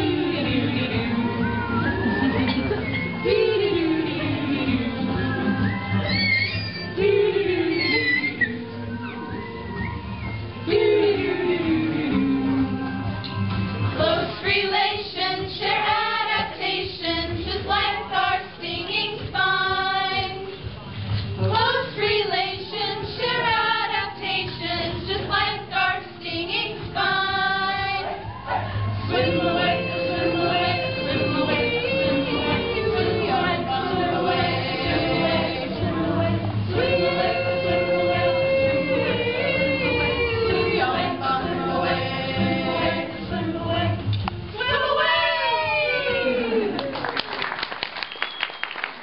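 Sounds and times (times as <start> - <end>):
group of voices singing: 0.0 - 20.6, 21.3 - 46.9.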